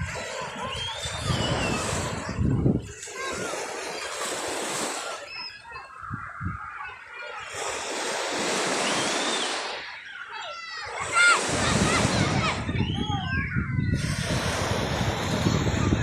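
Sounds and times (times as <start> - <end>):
sea waves washing onto shore: 0.0 - 12.8, 14.0 - 16.0.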